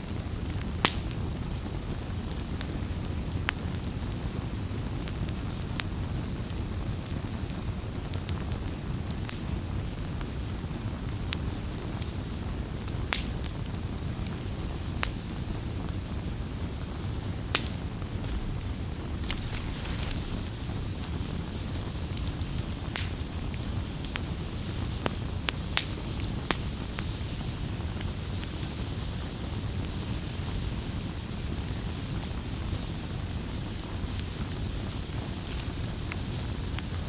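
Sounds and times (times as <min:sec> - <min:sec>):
campfire crackling with pops: 0:00.1 - 0:37.0.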